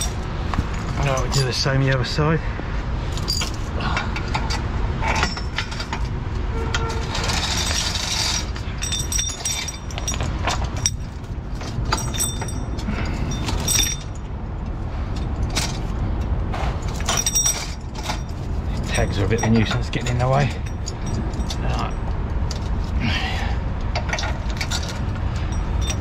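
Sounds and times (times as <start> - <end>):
metal chain clinking: 0.0 - 1.8, 3.1 - 14.4, 15.1 - 26.0
steady low rumble: 0.0 - 26.0.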